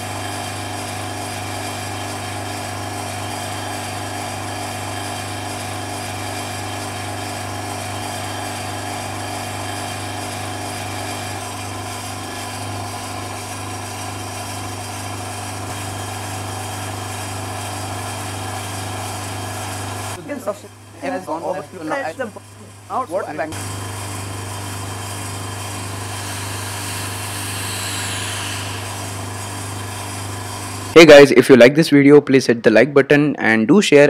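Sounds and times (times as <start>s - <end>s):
vacuum pump motor hum: 0.0s - 31.0s.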